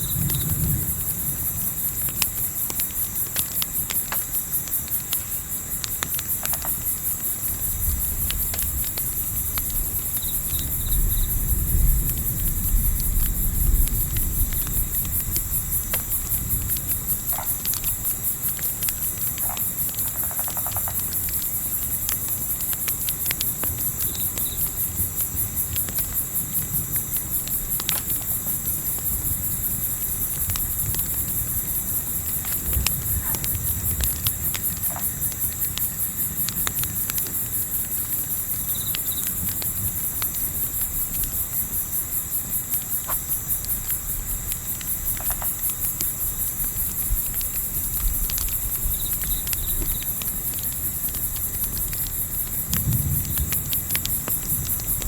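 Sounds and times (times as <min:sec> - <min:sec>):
campfire crackling: 0:00.0 - 0:55.0
crickets chirping: 0:00.0 - 0:55.0.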